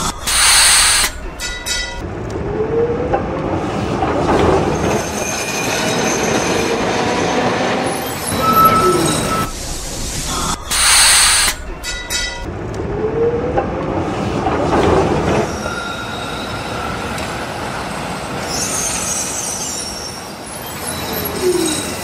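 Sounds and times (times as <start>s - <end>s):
tram wheel squeal: 0.0s - 2.0s, 3.6s - 22.0s.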